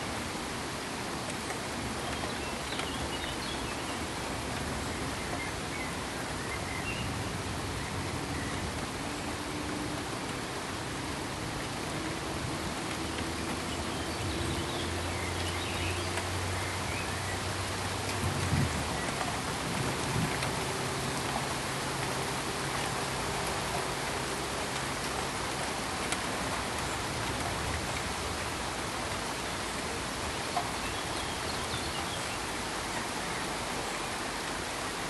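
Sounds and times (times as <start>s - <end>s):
pink noise hiss: 0.0s - 35.0s.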